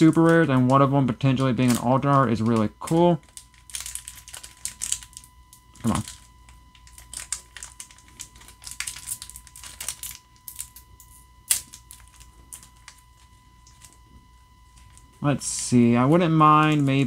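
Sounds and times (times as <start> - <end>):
foil pack crinkling: 0.0 - 10.9, 11.5 - 15.8.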